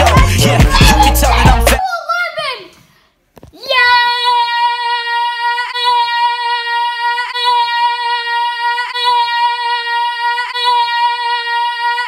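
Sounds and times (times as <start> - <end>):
child singing long high note: 0.1 - 1.8, 3.7 - 12.0.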